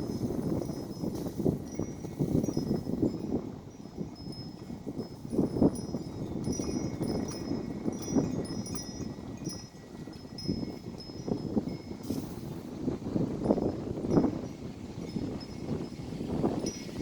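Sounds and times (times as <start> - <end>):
wind chimes tinkling: 0.0 - 17.0
wind rumbling over microphone: 0.0 - 17.0.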